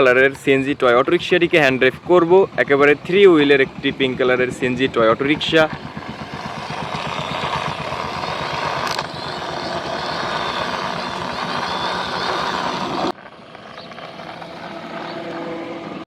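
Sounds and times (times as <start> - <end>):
quieter steady engine sound: 0.0 - 16.0
vehicle engine pulsing: 0.0 - 16.0.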